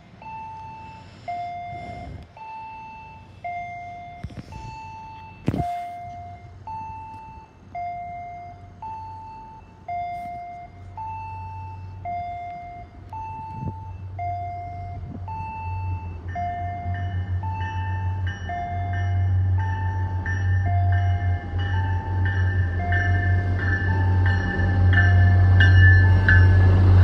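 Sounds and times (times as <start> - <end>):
diesel train engine hum: 0.0 - 27.0.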